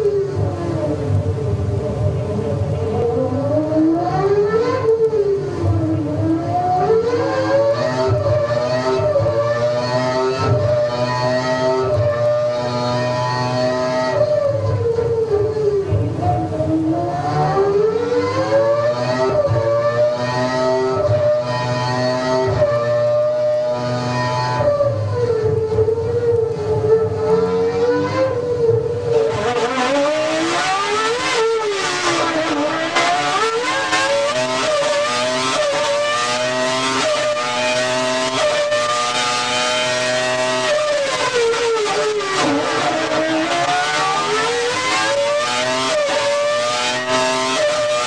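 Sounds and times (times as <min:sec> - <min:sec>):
racing engine at high revs: 0:00.0 - 0:48.0.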